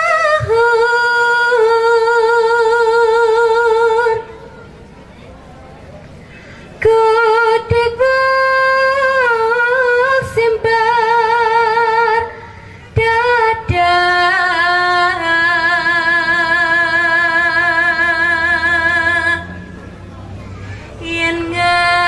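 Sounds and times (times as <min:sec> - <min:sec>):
woman singing unaccompanied: 0:00.0 - 0:04.5, 0:06.8 - 0:19.6, 0:20.9 - 0:22.0.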